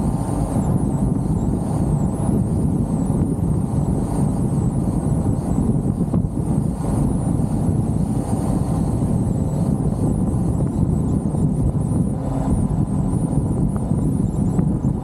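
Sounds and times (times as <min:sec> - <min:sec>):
car engine and road rumble: 0:00.0 - 0:15.0
wind buffeting microphone: 0:00.0 - 0:15.0.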